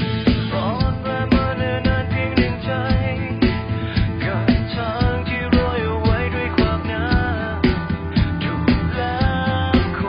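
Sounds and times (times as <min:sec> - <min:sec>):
pop background music: 0:00.0 - 0:10.0.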